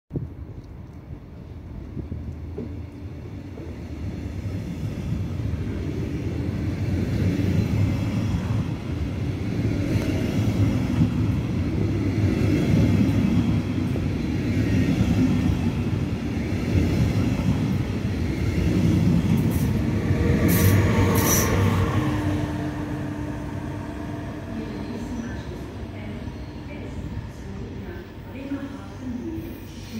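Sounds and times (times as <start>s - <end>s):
train wheels rumbling on rail: 0.2s - 29.9s.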